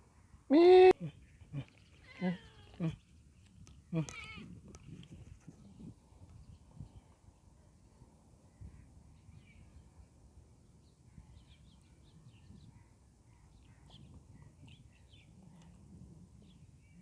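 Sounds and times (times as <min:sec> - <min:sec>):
small birds chirping: 0:01.1 - 0:10.1, 0:10.8 - 0:17.0.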